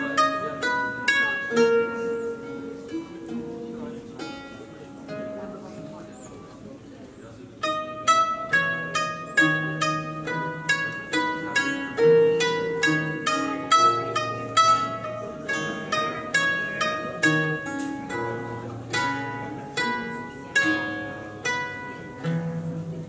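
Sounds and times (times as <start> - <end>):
plucked lute notes: 0.0 - 23.0.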